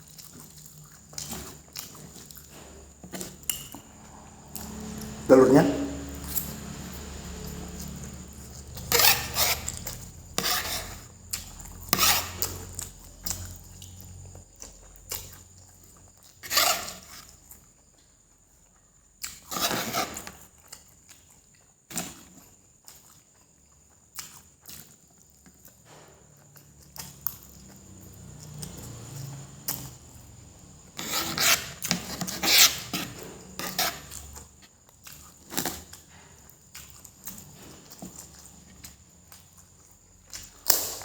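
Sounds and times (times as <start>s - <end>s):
noodles being chewed: 0.0s - 5.3s, 5.9s - 18.0s, 20.5s - 41.0s.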